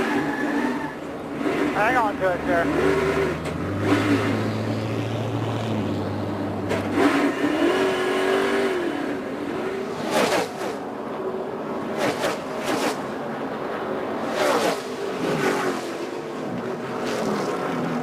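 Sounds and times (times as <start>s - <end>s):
race car engines passing: 0.0s - 18.0s.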